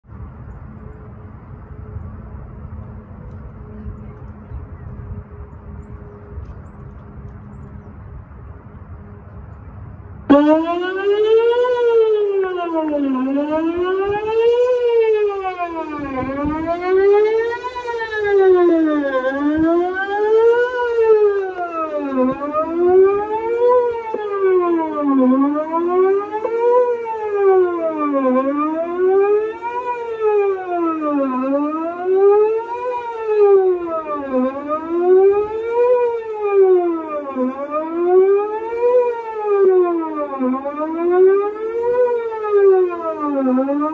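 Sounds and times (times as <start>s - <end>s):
warning siren wailing: 0.1s - 43.9s.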